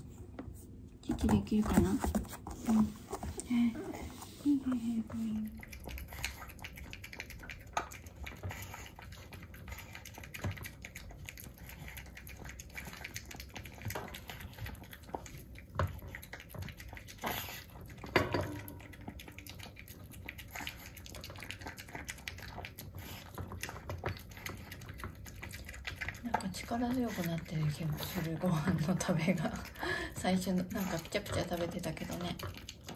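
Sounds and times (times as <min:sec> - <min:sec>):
puppy eating from food bowl: 0:00.0 - 0:32.9.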